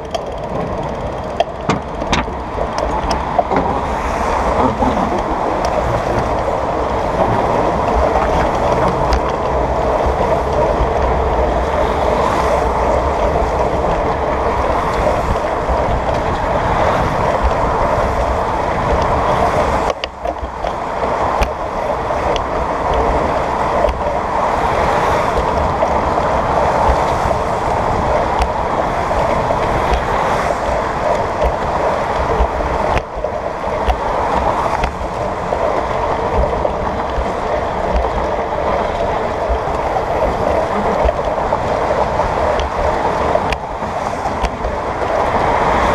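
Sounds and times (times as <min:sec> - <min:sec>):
cars passing: 0:00.0 - 0:45.9
wind buffeting microphone: 0:00.0 - 0:45.9.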